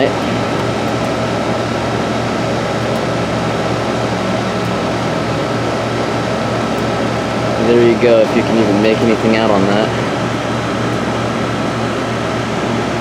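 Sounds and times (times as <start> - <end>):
compressor hum: 0.0 - 13.0
fan air rushing: 0.0 - 13.0.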